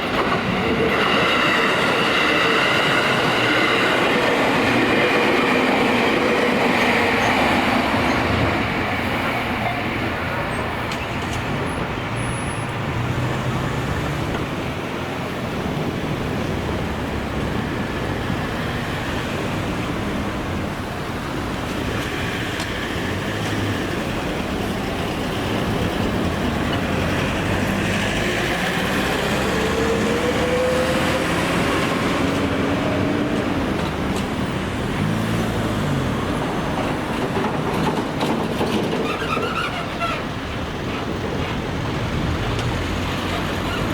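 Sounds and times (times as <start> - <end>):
road traffic passing: 0.0 - 43.9.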